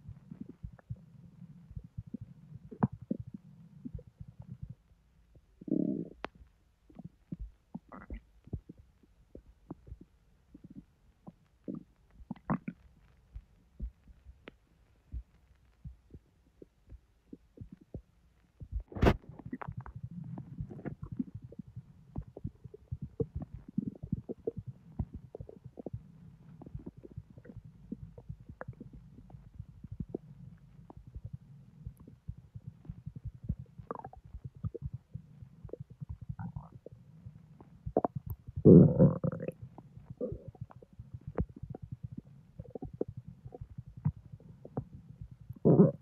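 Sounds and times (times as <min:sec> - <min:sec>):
stomach gurgling: 0:00.0 - 0:46.0.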